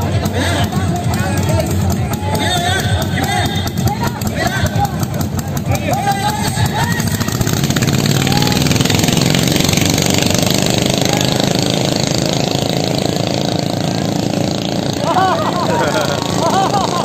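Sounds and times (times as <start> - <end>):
boat diesel engines running: 0.0 - 17.0.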